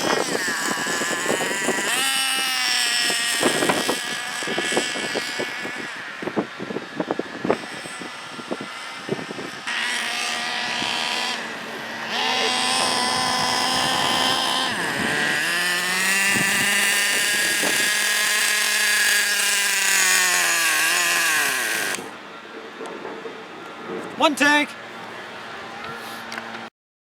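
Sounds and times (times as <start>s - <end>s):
small nitro engine buzzing: 0.0s - 22.3s.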